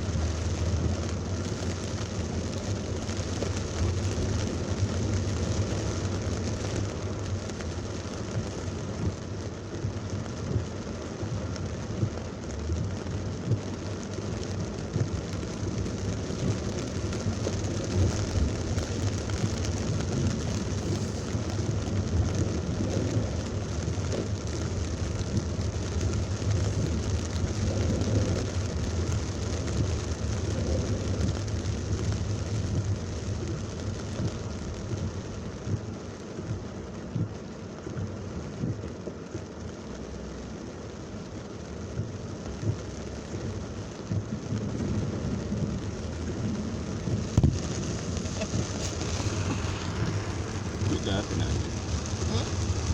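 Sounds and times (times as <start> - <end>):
low rumble: 0.0 - 37.4, 41.6 - 52.9
heavy rain pouring: 0.0 - 52.9.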